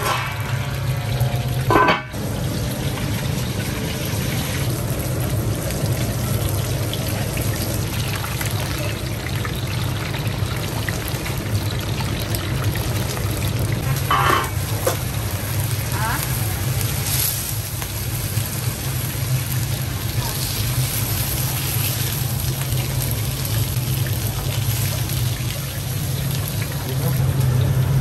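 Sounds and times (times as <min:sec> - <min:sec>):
hot oil sizzling and bubbling: 0:00.0 - 0:28.0.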